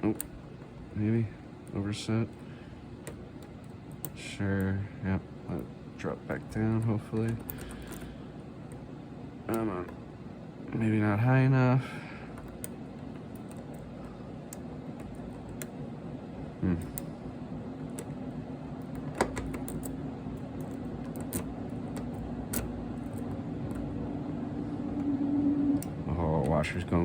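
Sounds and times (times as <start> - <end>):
washing machine humming: 0.0 - 27.0.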